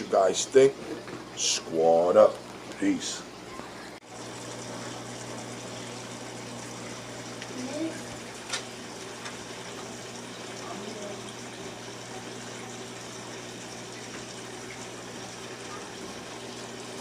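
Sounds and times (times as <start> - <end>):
low electrical hum: 0.0 - 17.0
water trickling: 0.0 - 17.0.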